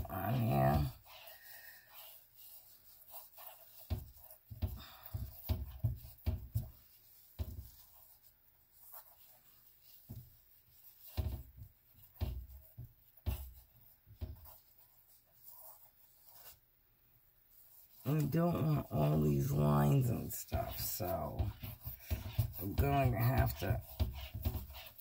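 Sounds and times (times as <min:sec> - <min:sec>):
hand rubbing paint on canvas: 0:00.0 - 0:16.6, 0:17.5 - 0:25.0.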